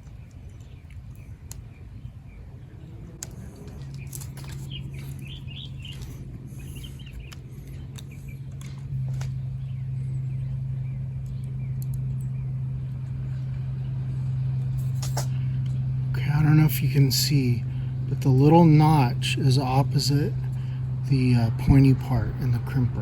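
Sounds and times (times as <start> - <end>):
birds chirping: 0.0 - 23.0
low mechanical hum: 0.0 - 23.0.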